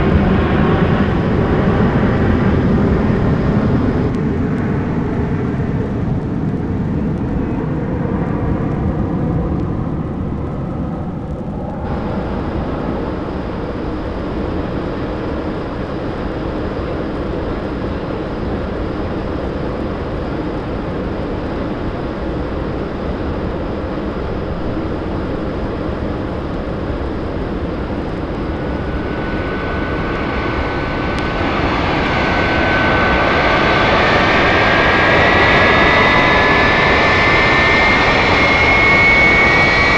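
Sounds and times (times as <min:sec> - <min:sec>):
jet-like whine: 0:00.0 - 0:39.9.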